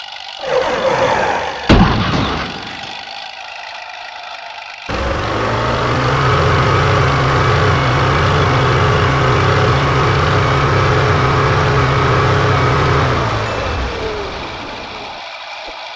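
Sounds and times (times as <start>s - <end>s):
toy engine idling sound: 0.0s - 0.9s, 2.5s - 15.9s.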